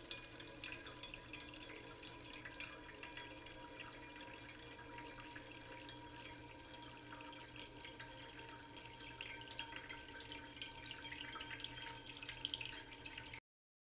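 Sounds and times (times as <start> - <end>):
water trickling and dripping: 0.0 - 13.4.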